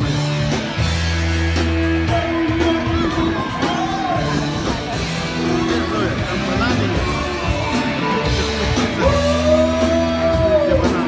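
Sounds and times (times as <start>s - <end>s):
rock guitar: 0.0s - 11.0s
steady bass line: 0.0s - 11.0s
person singing: 2.0s - 11.0s.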